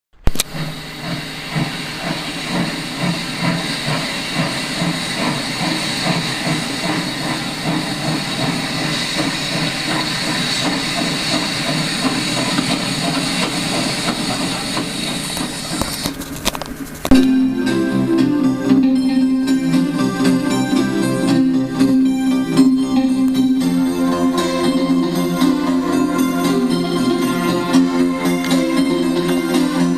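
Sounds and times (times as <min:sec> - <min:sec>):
steam locomotive chuffing: 0:00.4 - 0:29.9
steam hissing: 0:00.5 - 0:29.9.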